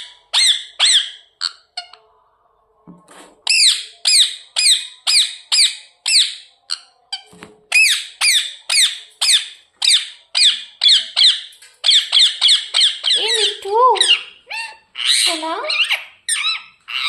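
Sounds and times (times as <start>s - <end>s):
parakeet shrill squawks: 0.3s - 1.9s, 3.5s - 7.0s, 7.7s - 17.0s.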